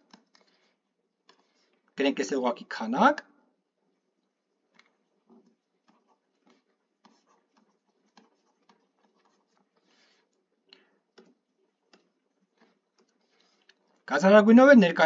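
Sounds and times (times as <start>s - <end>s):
stylus tapping and scratching touchscreen: 0.0s - 15.0s.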